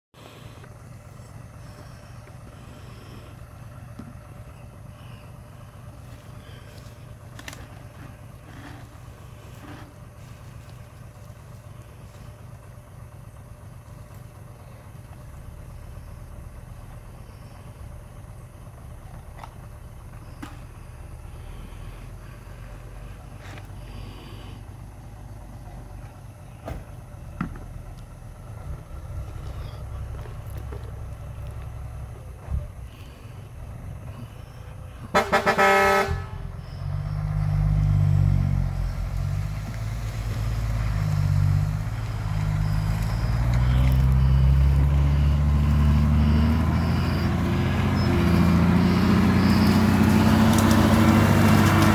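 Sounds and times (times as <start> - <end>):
truck engine idling: 0.1 - 51.9.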